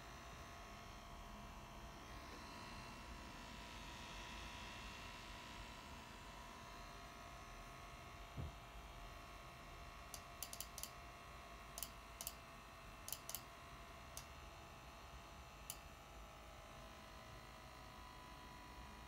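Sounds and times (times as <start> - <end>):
laptop cooling fan whirring: 0.0 - 19.0.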